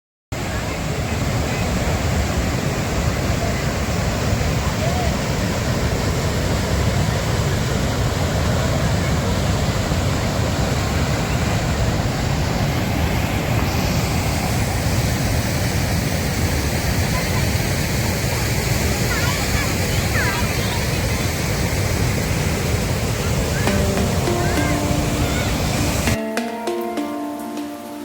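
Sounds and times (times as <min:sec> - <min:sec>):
waterfall rushing roar: 0:00.4 - 0:26.2.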